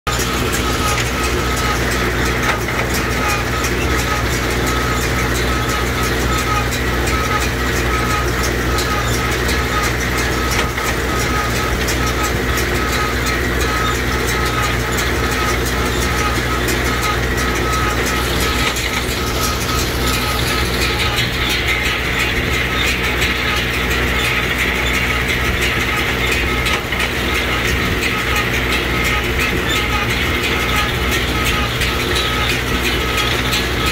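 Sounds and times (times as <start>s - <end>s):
tractor diesel engine running: 0.0s - 33.9s
baler clattering: 0.1s - 33.9s.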